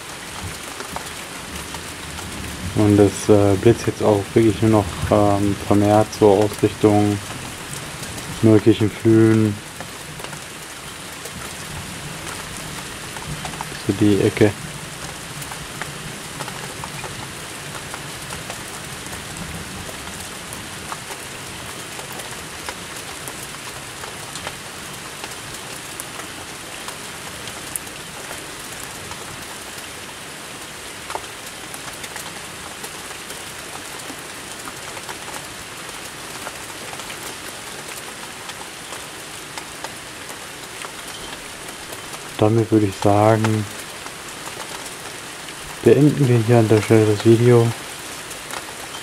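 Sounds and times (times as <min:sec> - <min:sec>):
heavy rain falling: 0:00.0 - 0:49.0
raindrops ticking close by: 0:00.0 - 0:49.0.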